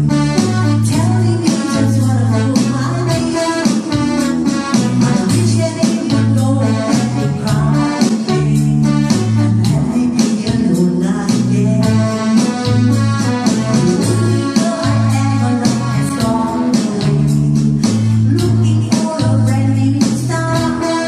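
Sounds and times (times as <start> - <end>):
keyboard with bass and drums: 0.0 - 21.0
woman singing: 0.3 - 21.0.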